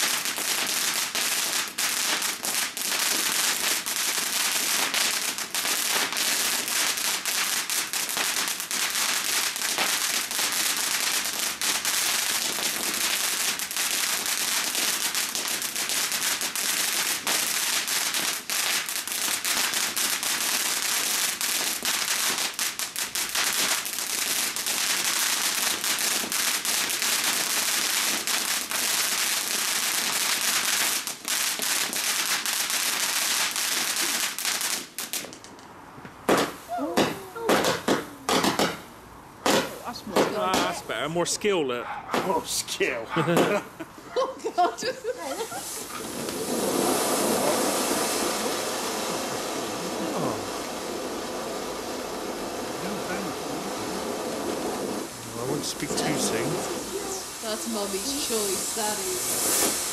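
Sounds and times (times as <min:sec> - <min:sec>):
firework fountain hissing and crackling: 0:00.0 - 0:59.9.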